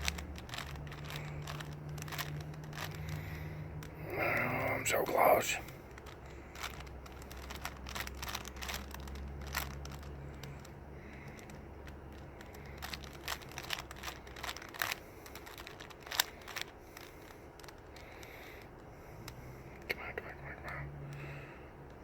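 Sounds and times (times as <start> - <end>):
plastic puzzle cube clicking: 0.0 - 4.1, 5.6 - 19.9.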